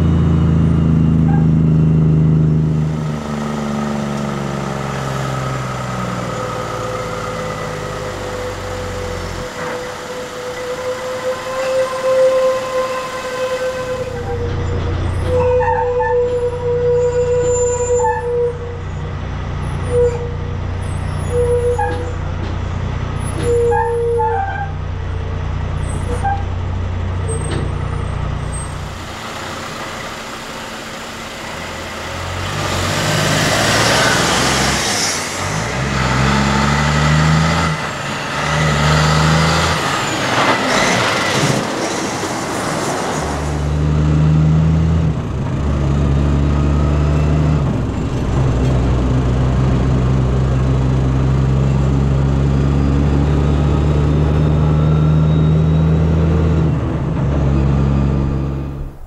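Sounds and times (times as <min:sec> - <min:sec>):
truck diesel engine: 0:00.0 - 0:59.0.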